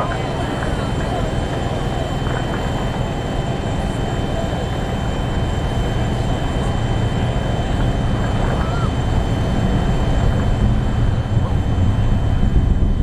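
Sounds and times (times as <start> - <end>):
distant rocket engine rumble: 0.0 - 13.0.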